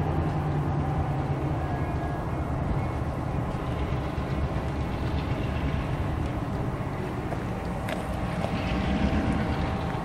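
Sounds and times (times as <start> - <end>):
diesel locomotive rumble: 0.0 - 10.0.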